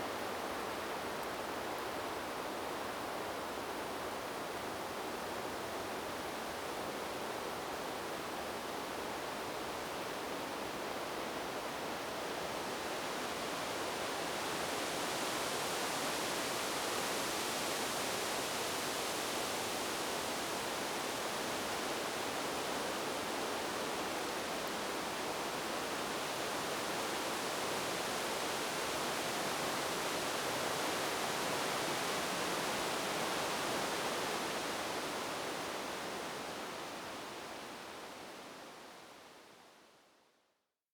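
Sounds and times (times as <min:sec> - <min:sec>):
wind rustling tree leaves: 0:00.0 - 0:39.6.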